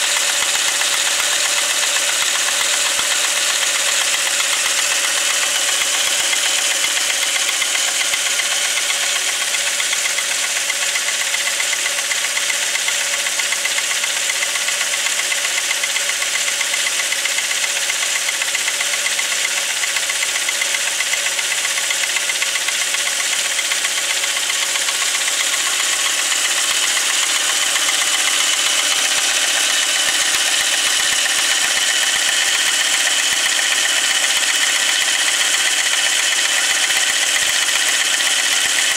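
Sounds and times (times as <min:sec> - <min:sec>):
engine knocking: 0:00.0 - 0:38.9
petrol engine running: 0:00.0 - 0:38.9.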